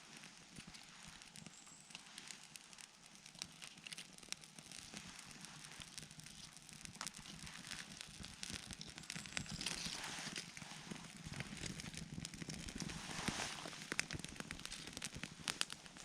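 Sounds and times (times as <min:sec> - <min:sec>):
campfire crackling and popping: 0:00.0 - 0:16.0
fire hiss: 0:00.0 - 0:16.0.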